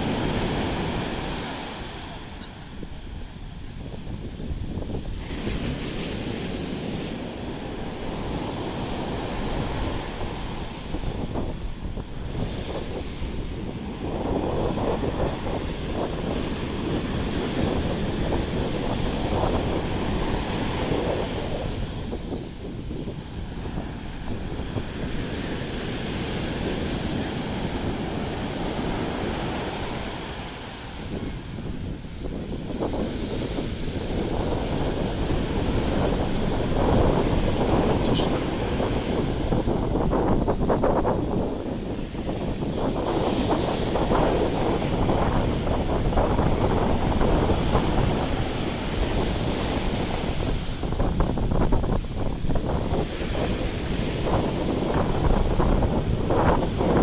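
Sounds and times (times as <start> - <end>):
sea waves breaking on beach: 0.0 - 57.0
wind buffeting microphone: 0.0 - 57.0.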